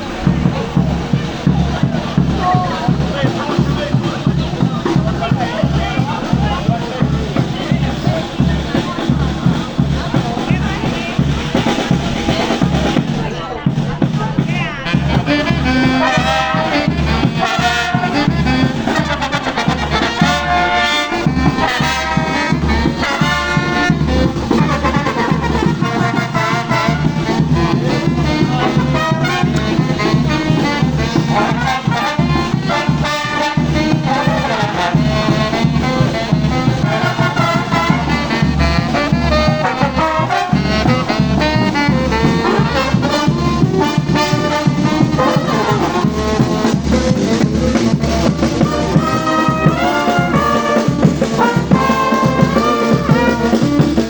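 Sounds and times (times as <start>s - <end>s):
brass band playing: 0.0s - 54.0s
drums steady beat: 0.0s - 54.0s.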